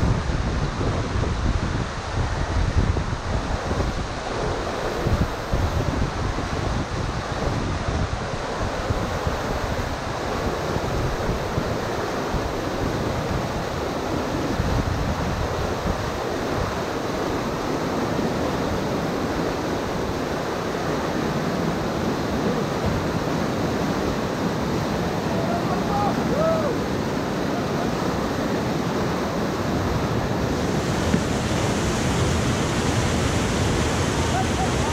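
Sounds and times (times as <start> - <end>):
whitewater rapids rushing: 0.0 - 34.9
wind buffeting microphone: 0.0 - 34.9.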